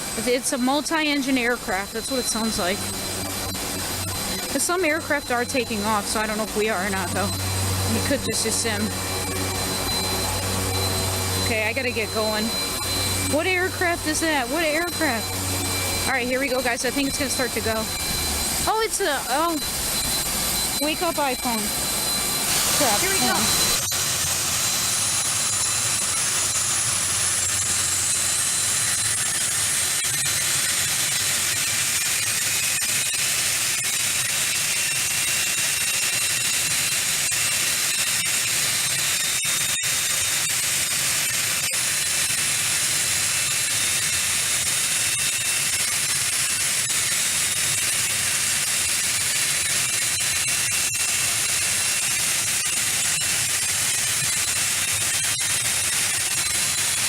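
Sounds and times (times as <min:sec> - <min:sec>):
aircraft turbine engines hissing: 0:00.0 - 0:57.0.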